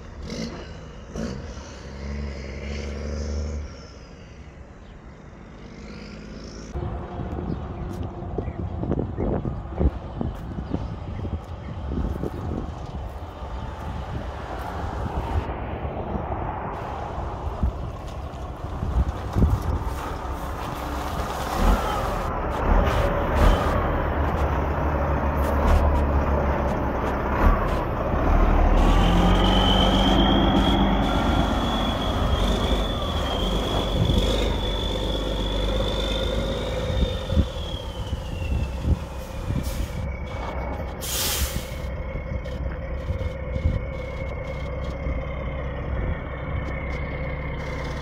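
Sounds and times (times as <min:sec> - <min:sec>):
diesel truck engine rumble: 0:00.0 - 0:48.0.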